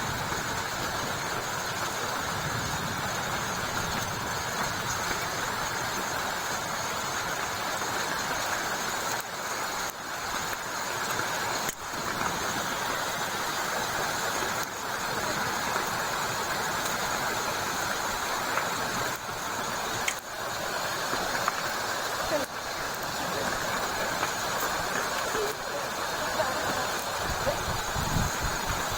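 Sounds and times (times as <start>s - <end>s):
heavy rain falling: 0.0s - 28.9s.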